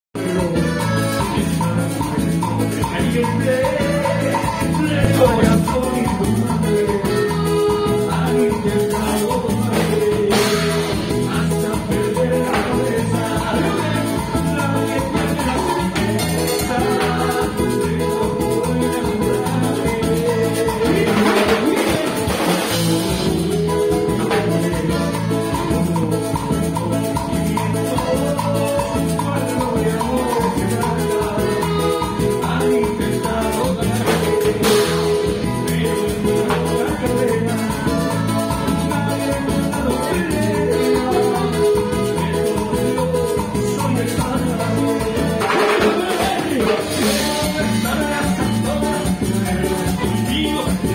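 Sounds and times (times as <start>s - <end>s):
live band playing: 0.2s - 50.9s.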